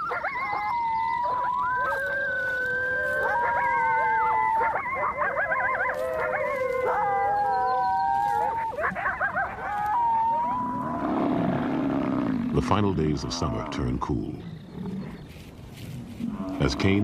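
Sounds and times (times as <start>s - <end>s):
coyotes howling: 0.0s - 17.0s
coyotes yipping: 0.0s - 17.0s.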